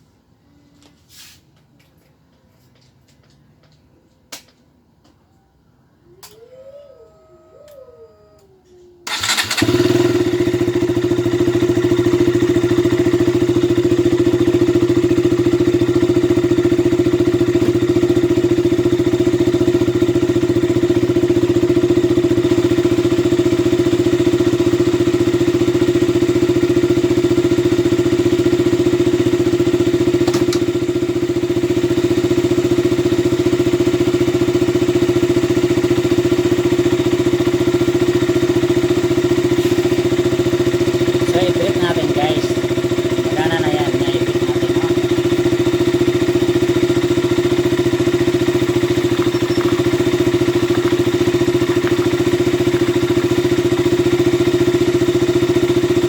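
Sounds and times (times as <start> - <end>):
motorcycle engine running: 9.1 - 56.0.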